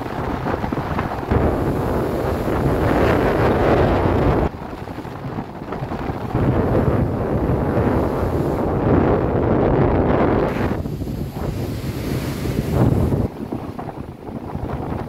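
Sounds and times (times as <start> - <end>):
waves rushing: 0.0 - 15.0
wind buffeting microphone: 0.0 - 15.0.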